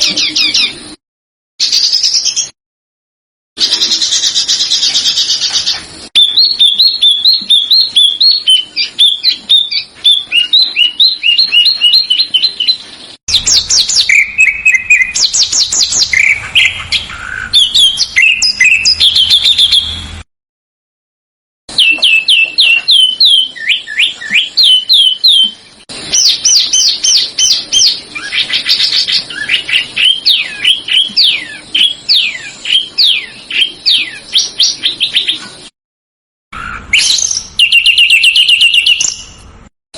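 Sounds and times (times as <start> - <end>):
songbirds singing: 0.0 - 1.0, 1.6 - 2.6, 3.6 - 20.2, 21.7 - 35.7, 36.6 - 39.5.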